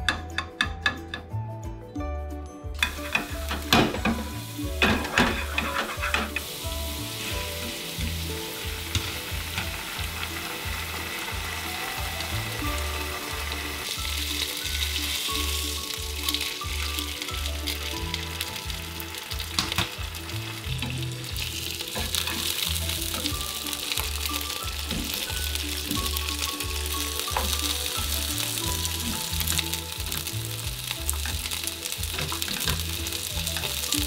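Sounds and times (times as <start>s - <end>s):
background music with low beat: 0.0s - 34.0s
fish sizzling in oil: 2.8s - 34.0s
sharp crackles of frying: 2.8s - 34.0s.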